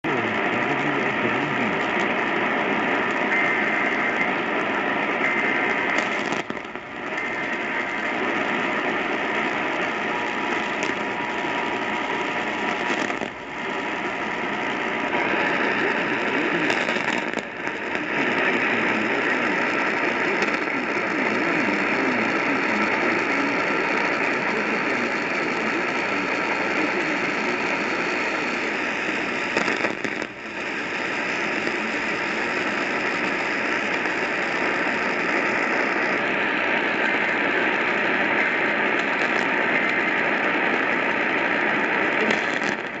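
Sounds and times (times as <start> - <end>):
faint steady tones: 0.0 - 43.0
radio static hiss: 0.0 - 43.0.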